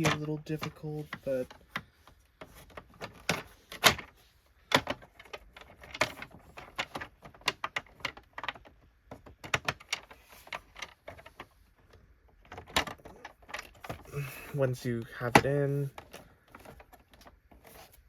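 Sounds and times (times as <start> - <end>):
plastic parts clicking and knocking: 0.0 - 18.0.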